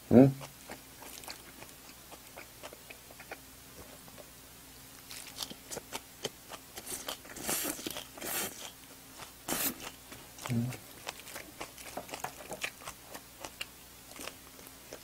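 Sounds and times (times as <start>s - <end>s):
chewing and slurping mouth sounds: 0.4s - 4.3s, 5.0s - 15.0s.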